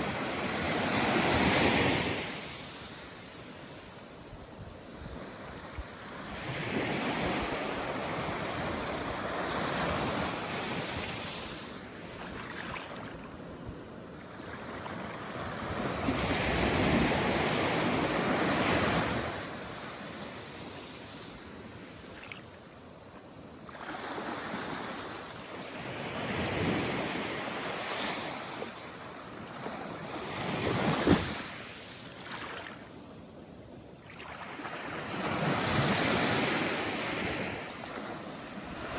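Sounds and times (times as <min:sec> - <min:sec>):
small waves washing ashore: 0:00.0 - 0:32.9, 0:34.0 - 0:38.9.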